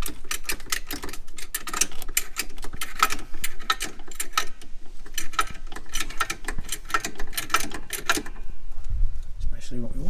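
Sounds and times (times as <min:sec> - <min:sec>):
metallic ratcheting clicks: 0:00.0 - 0:08.4.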